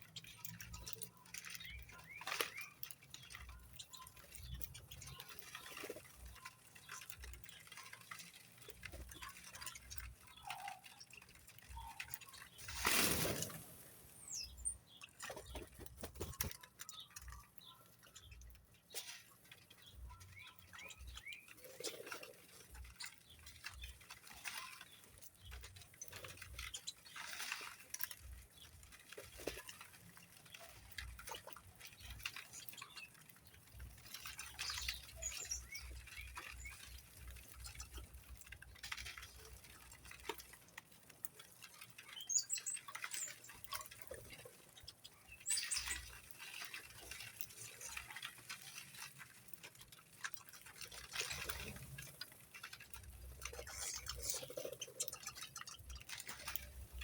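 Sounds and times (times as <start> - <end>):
birds tapping and scratching: 0.0 - 57.0.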